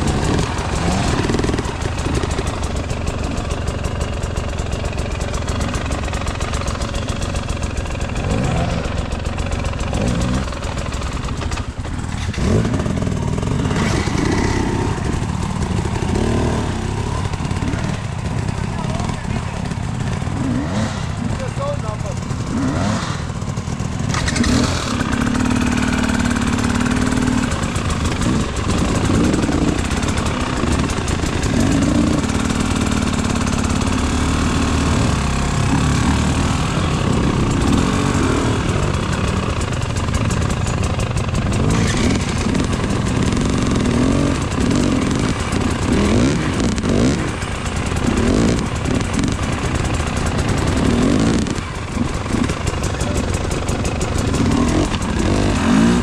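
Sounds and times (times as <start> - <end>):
two-stroke motorcycle revving: 0.0 - 56.0.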